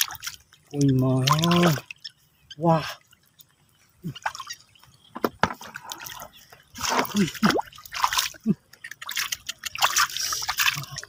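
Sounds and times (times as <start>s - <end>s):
muddy water sloshing and dripping: 0.0s - 11.0s
short water splashes: 0.0s - 11.0s.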